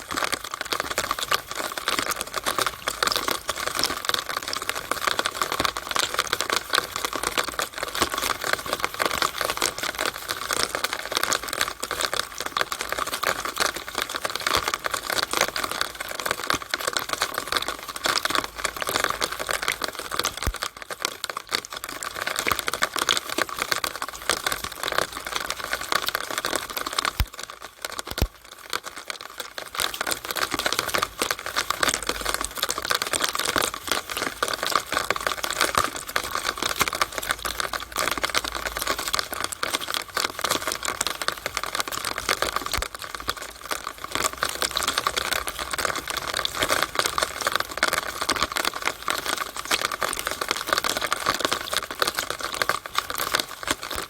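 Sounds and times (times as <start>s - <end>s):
rainwater running down downspout: 0.0s - 54.0s.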